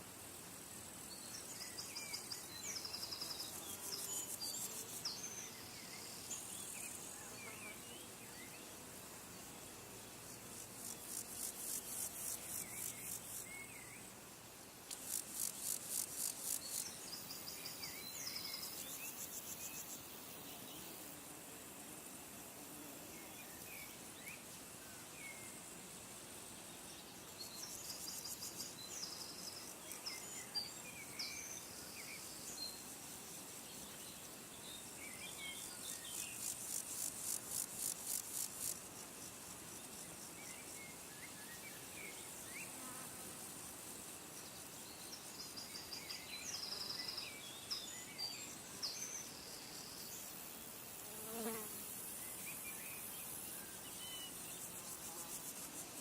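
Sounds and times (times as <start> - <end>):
faint outdoor background: 0.0 - 56.0
insects chirping: 0.2 - 8.6, 9.3 - 14.2, 14.9 - 22.5, 23.1 - 56.0.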